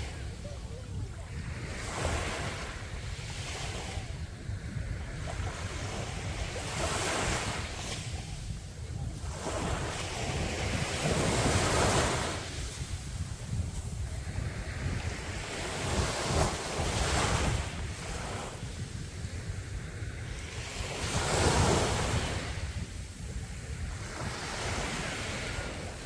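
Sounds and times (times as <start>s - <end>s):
waves breaking on beach: 0.0s - 26.0s
wind on microphone: 0.0s - 26.0s.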